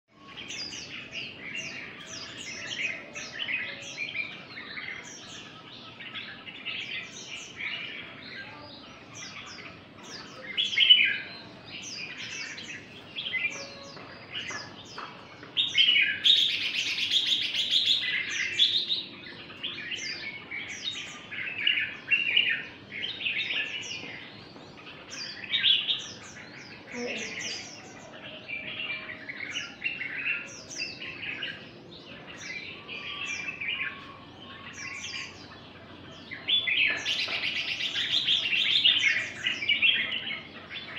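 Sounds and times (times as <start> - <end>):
birds singing chirping notes: 0.1 - 40.9.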